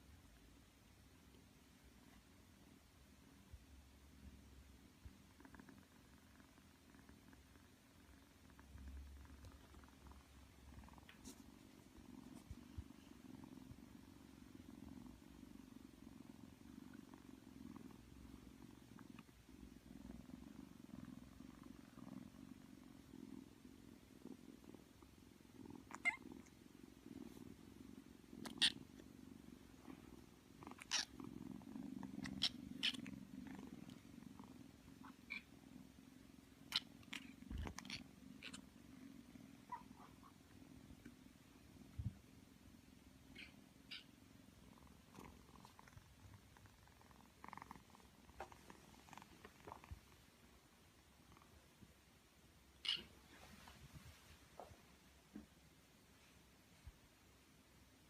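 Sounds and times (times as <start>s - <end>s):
kitten purring: 0.0s - 57.2s.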